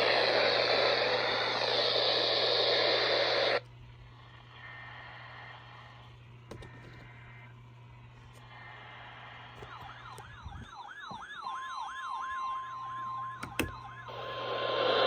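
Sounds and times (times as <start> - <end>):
radio static hissing: 0.0 - 10.7, 12.8 - 15.0
low steady hum: 0.0 - 15.0.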